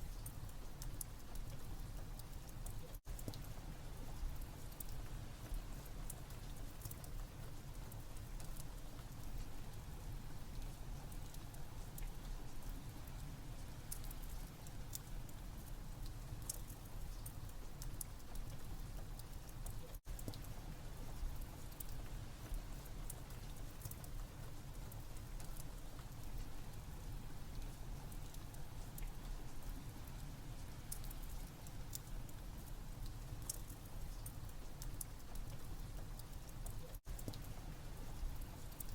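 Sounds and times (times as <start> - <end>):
rain: 0.0 - 38.9.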